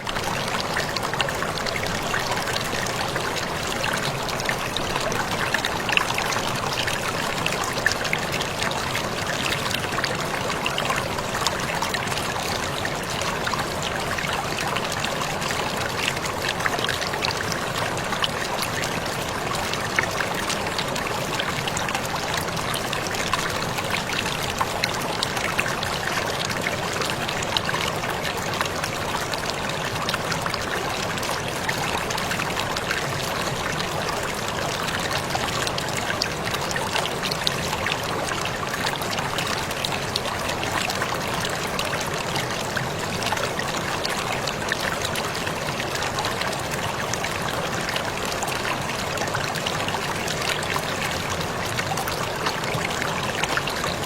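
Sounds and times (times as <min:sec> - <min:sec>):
water splashes and drips: 0:00.0 - 0:54.0.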